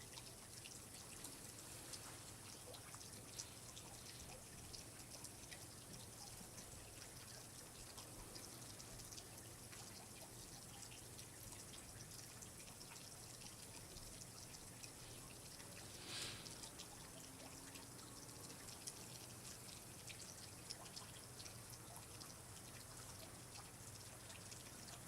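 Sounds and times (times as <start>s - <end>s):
water dripping and trickling: 0.0s - 25.0s.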